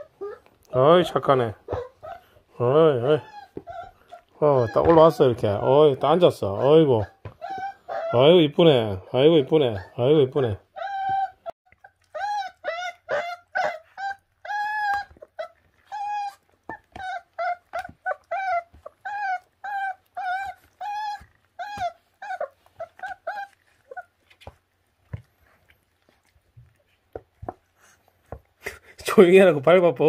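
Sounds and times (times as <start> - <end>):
puppy whining: 0.0 - 29.0.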